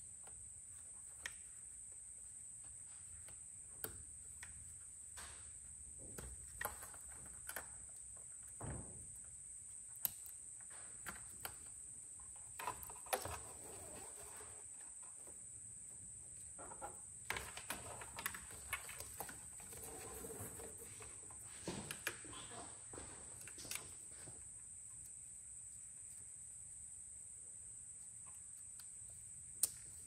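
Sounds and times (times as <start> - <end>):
clicks and rustles of handling wiring: 0.1 - 25.4.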